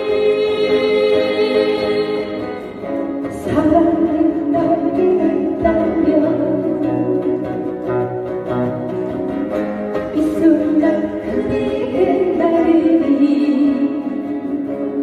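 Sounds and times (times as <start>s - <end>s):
woman singing: 0.0s - 7.5s, 10.0s - 15.0s
acoustic guitars strumming: 0.0s - 15.0s.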